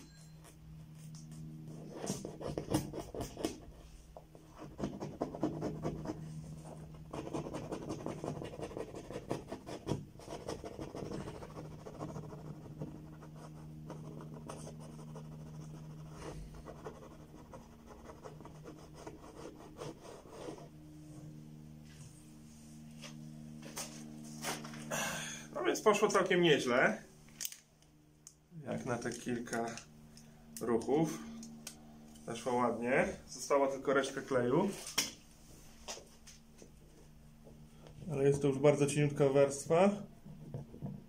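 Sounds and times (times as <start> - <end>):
low hum: 0.0 - 41.0.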